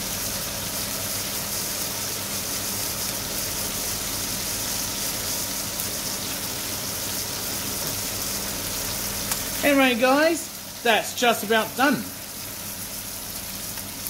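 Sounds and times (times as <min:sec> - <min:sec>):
burger patties sizzling in pan: 0:00.0 - 0:14.0.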